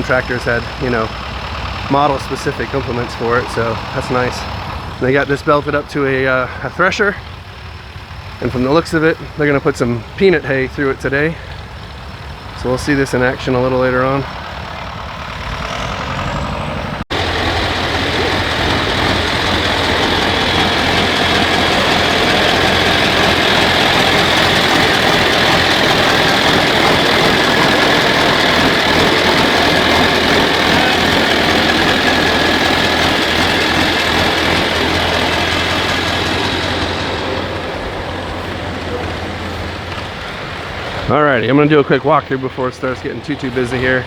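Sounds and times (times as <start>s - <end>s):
engine running: 0.0s - 44.0s.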